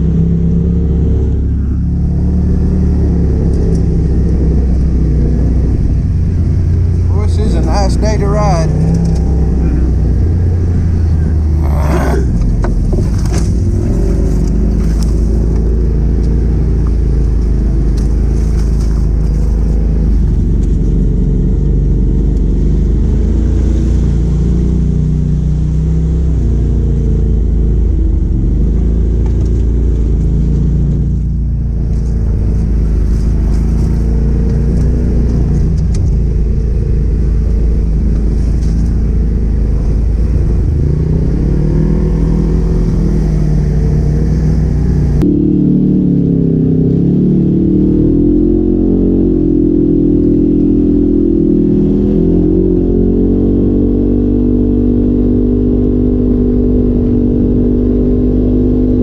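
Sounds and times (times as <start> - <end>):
vehicle engine at low revs: 0.0 - 59.0.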